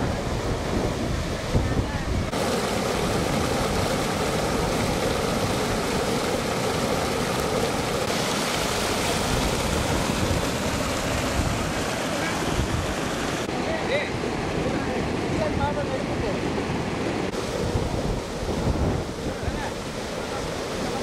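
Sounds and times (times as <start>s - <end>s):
wind buffeting microphone: 0.0s - 13.5s, 16.5s - 21.0s
rushing floodwater: 0.0s - 21.0s.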